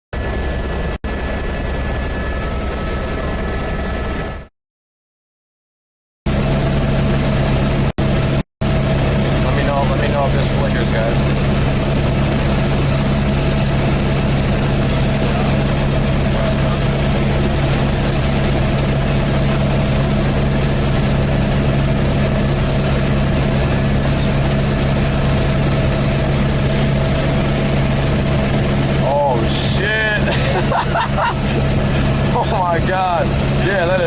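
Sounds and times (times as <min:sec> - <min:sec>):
helicopter engine and rotors: 0:00.1 - 0:04.5, 0:06.3 - 0:34.0.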